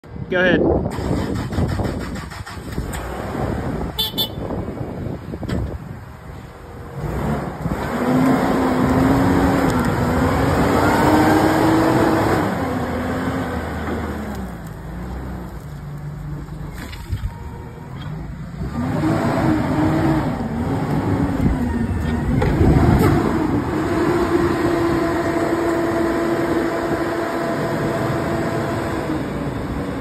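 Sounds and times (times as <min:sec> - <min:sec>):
forklift engine running: 0:00.8 - 0:30.0.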